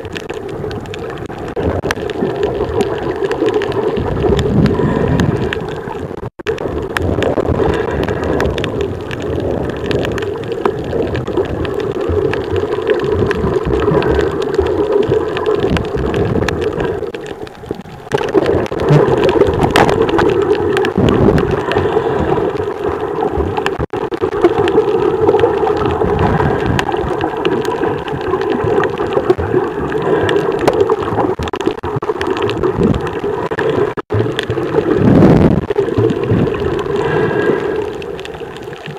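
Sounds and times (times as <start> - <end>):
crackle of small clicks: 0.0 - 38.9
water rushing against camera: 0.0 - 38.9.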